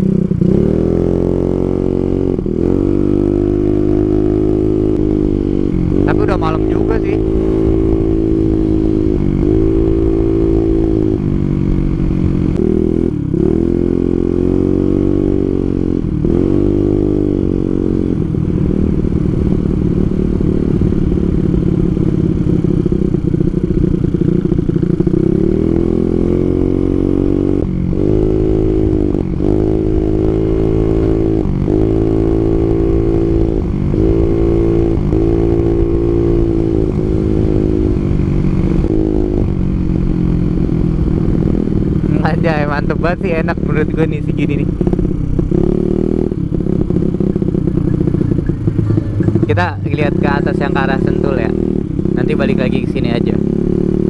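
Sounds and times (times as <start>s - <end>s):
scooter engine revving: 0.0s - 54.0s.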